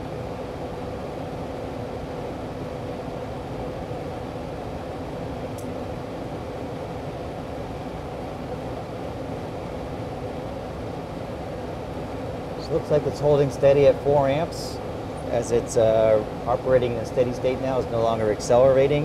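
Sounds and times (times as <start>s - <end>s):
air handler blower running: 0.0s - 19.0s.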